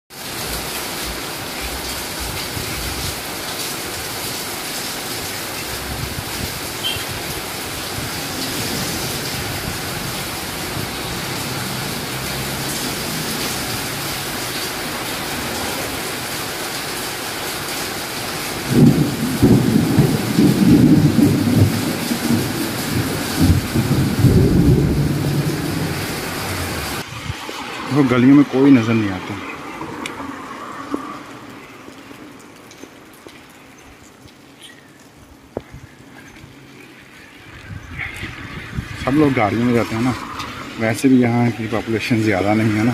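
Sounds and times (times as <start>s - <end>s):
rain on wet street: 0.1s - 42.9s.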